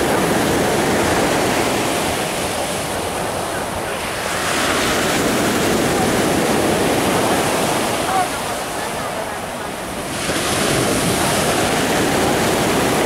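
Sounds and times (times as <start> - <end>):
waves breaking on pebble beach: 0.0 - 13.0.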